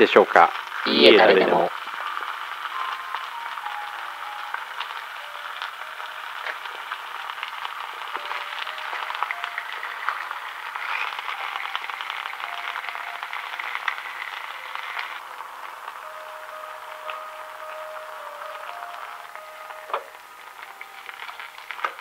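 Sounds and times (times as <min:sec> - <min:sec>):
eggs and ham sizzling in pan: 0:00.0 - 0:22.0.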